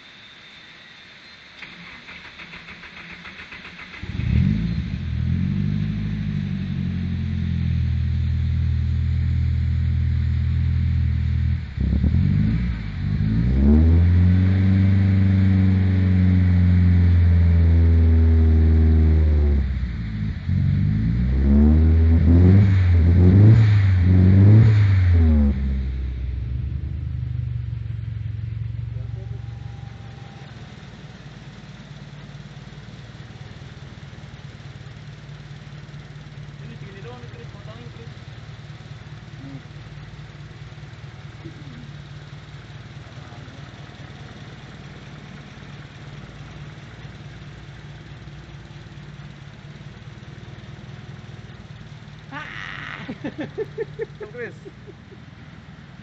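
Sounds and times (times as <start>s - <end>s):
car engine revving: 1.6s - 56.0s.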